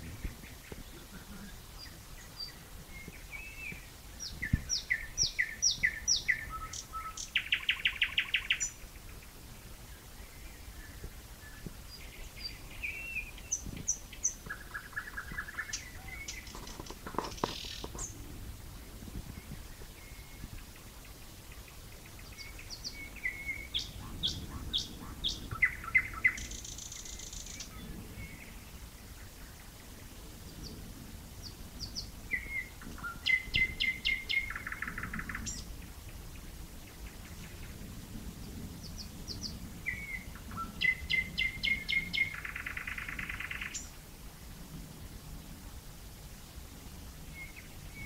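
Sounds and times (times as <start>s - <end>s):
nightingale singing: 0.0s - 18.3s, 19.2s - 29.7s, 31.4s - 37.8s, 38.4s - 44.0s, 47.3s - 48.0s.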